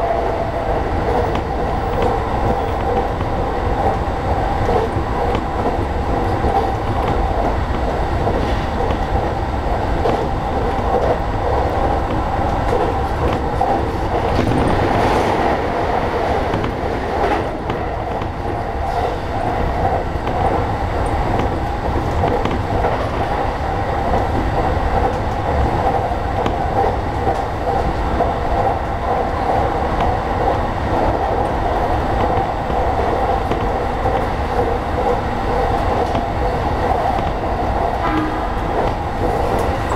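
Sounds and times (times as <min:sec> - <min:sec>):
train electric hum: 0:00.0 - 0:39.9
wheels rumbling on rail: 0:00.0 - 0:39.9.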